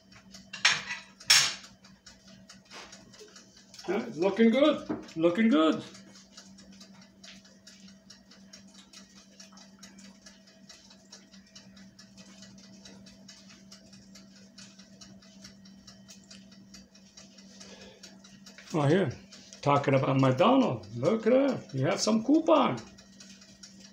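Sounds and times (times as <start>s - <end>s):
light ticking and clicking: 0.0s - 23.9s.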